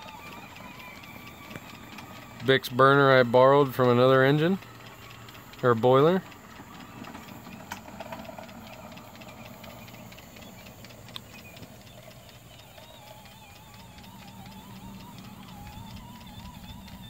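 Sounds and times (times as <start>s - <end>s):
faint wavering whine: 0.0s - 17.0s
model steam engine ticking: 0.0s - 17.0s.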